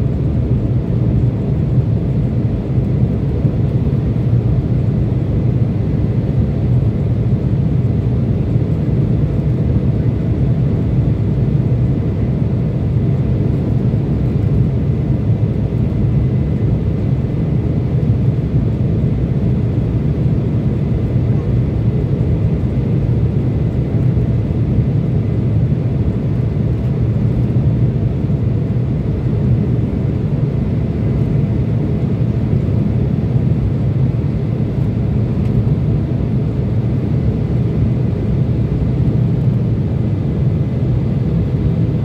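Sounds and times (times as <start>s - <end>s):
jet engine cabin rumble: 0.0s - 42.0s.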